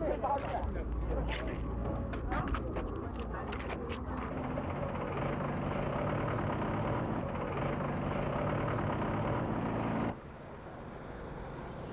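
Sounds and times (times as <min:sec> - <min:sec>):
heavy engine running: 0:00.0 - 0:11.9.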